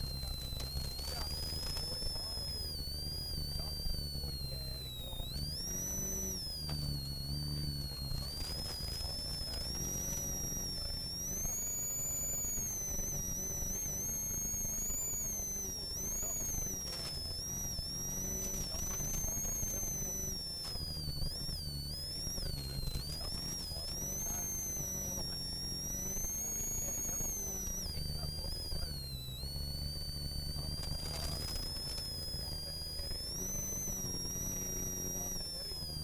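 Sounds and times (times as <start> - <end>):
rally car engine revving: 0.0 - 36.0
turbo whistle: 0.0 - 36.0.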